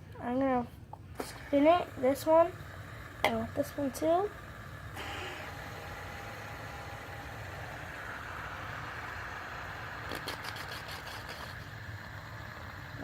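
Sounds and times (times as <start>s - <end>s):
fidget spinner whirring: 1.1s - 13.0s.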